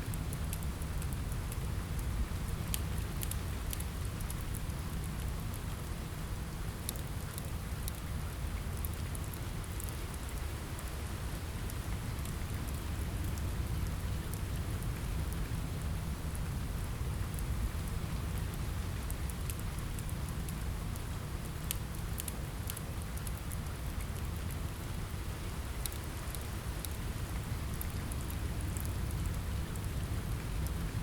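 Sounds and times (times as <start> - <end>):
wood fire crackling: 0.0 - 6.0, 6.6 - 31.0
steady rain: 0.0 - 31.0.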